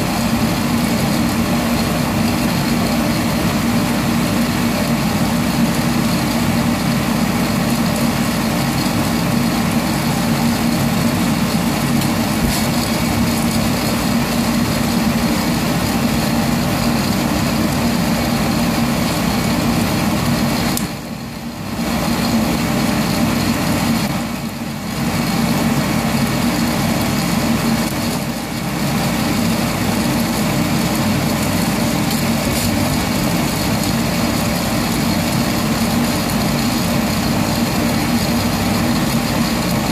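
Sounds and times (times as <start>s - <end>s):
coffee roaster blower whirring: 0.0s - 39.9s.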